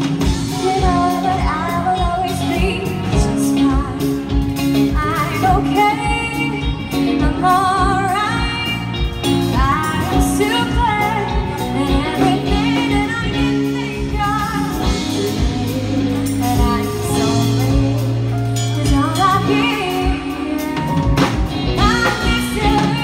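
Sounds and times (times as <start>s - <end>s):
drum kit beat: 0.0s - 23.0s
electric bass: 0.0s - 23.0s
electric guitar: 0.0s - 23.0s
keyboard: 0.0s - 23.0s
woman singing: 0.0s - 23.0s.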